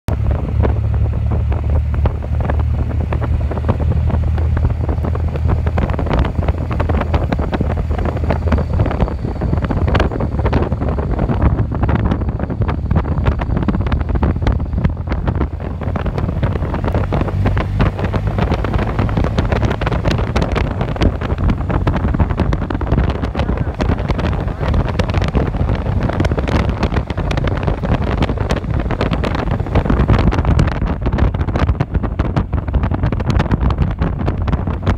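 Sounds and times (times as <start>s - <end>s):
vehicle driving rumble: 0.0s - 34.9s
wind buffeting microphone: 0.1s - 34.9s.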